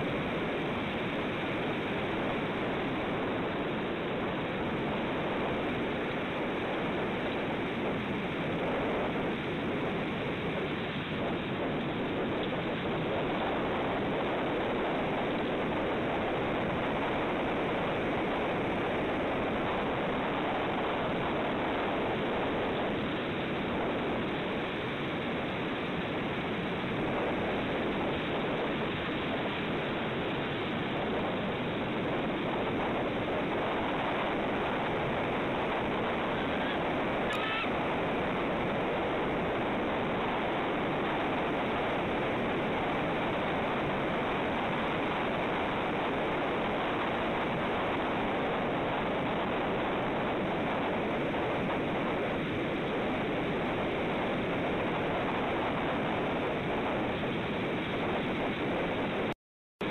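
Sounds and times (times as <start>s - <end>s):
ocean surf: 0.0s - 59.9s
wind: 0.0s - 59.9s.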